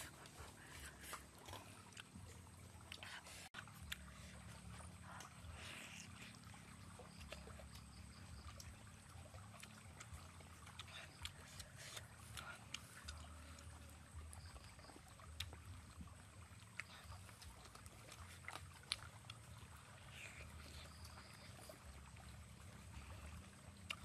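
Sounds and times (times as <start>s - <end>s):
low steady hum: 0.0s - 24.0s
wet chewing and lip-smacking: 0.0s - 24.0s.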